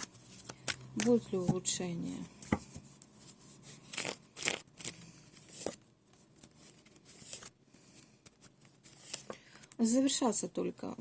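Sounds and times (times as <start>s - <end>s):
cards being shuffled: 0.0s - 1.5s, 2.4s - 9.8s.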